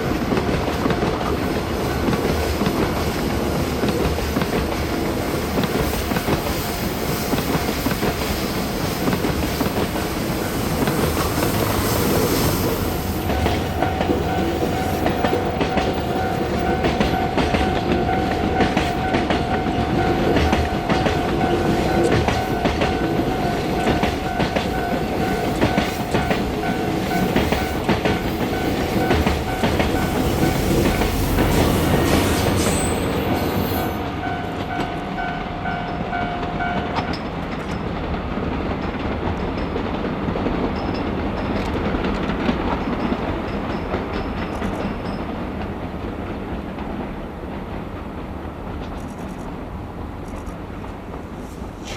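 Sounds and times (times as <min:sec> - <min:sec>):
train wheels clacking: 0:00.0 - 0:51.9.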